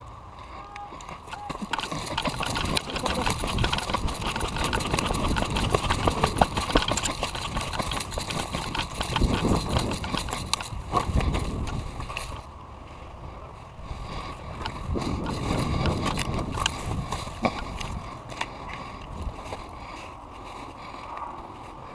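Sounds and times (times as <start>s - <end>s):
footsteps on rough ground: 0.8s - 12.5s, 14.4s - 21.9s.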